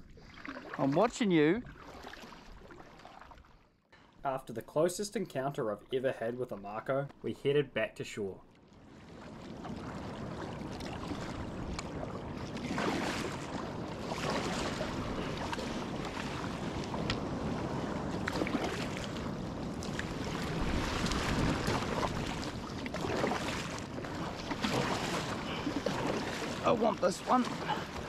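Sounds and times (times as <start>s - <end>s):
water splashing along kayak hull: 0.0s - 4.2s, 8.4s - 28.0s.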